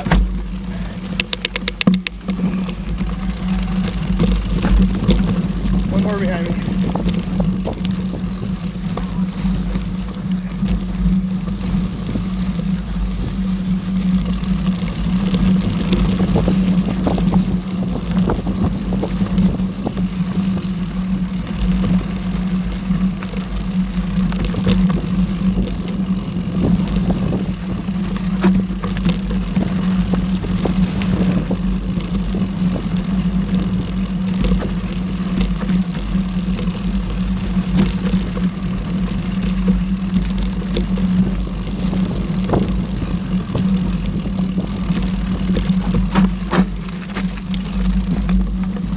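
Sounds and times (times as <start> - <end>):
bike clicks and rattles: 0.0 - 48.9
bike tyres rumbling on dirt: 0.0 - 48.9.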